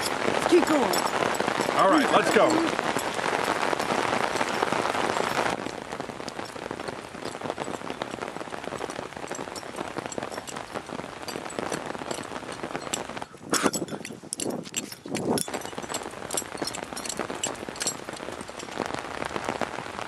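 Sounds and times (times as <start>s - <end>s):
rain on pavement: 0.0s - 20.0s.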